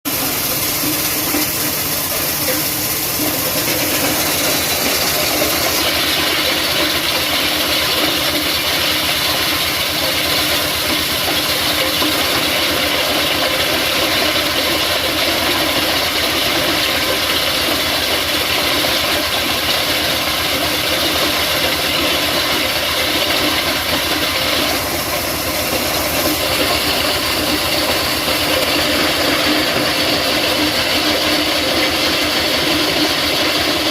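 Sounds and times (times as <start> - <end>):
stone crusher machine crushing rock: 0.1 - 33.9.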